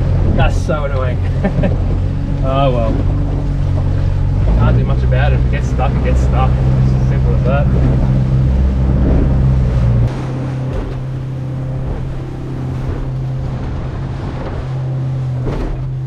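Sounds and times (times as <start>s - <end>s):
outboard motor running: 0.0s - 16.0s
water rushing past hull: 0.0s - 16.0s
wind: 0.0s - 16.0s.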